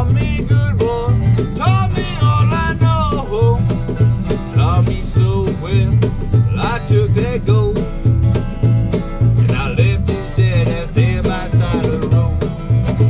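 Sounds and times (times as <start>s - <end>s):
mandolin lead line: 0.0s - 13.0s
strummed guitar rhythm: 0.0s - 13.0s.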